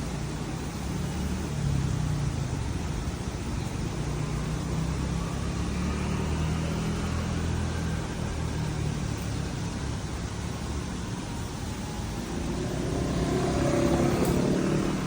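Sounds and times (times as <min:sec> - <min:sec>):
traffic hiss: 0:00.0 - 0:15.0
vehicle engine humming: 0:00.0 - 0:15.0.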